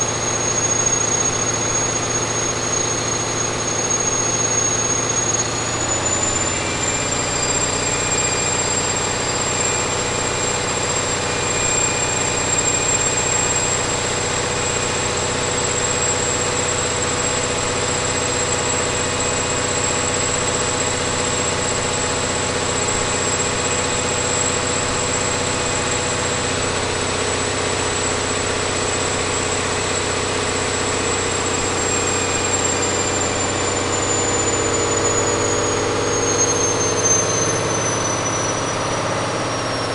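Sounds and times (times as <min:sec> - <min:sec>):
diesel engine running: 0:00.0 - 0:39.9
thin high whine: 0:00.0 - 0:39.9.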